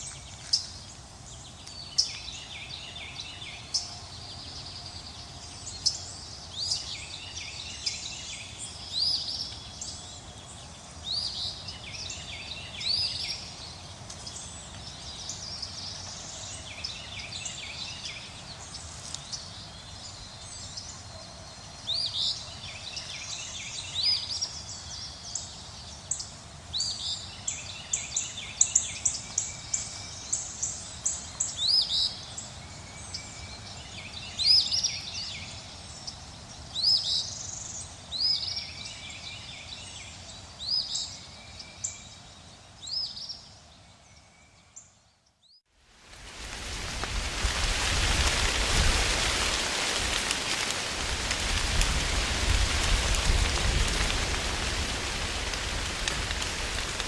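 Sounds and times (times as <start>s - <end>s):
wind rustling leaves: 0.0s - 57.0s.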